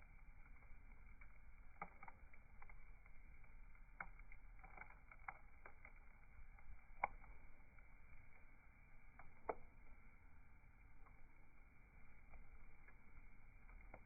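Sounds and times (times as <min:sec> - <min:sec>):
bonfire crackling: 0:00.0 - 0:14.0
low steady hiss: 0:00.0 - 0:14.0.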